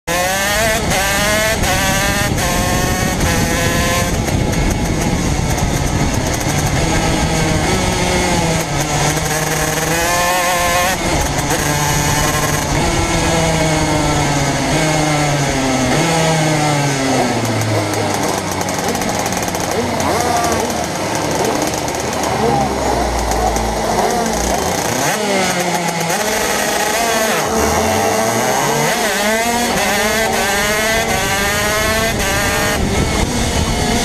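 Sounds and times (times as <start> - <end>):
kart engine revving: 0.0 - 34.0.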